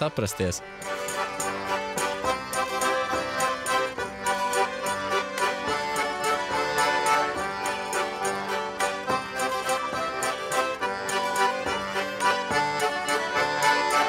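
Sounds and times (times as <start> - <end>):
button accordion folk tune: 0.0 - 14.0.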